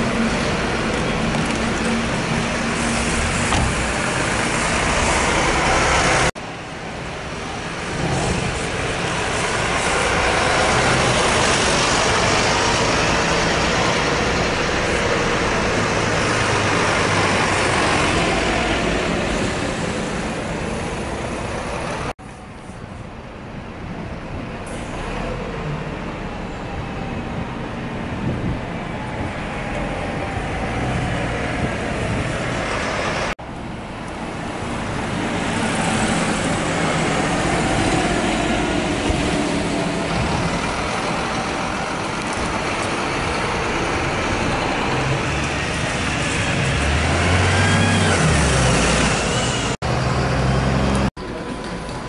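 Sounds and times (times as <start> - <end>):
buses driving past: 0.0 - 52.0
street traffic: 0.0 - 52.0.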